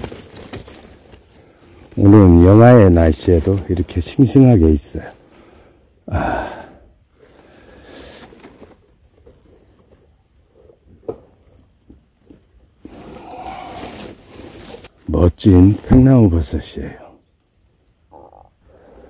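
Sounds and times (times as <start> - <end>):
gloved hand rustling leaf litter: 0.0 - 10.7, 11.6 - 16.6.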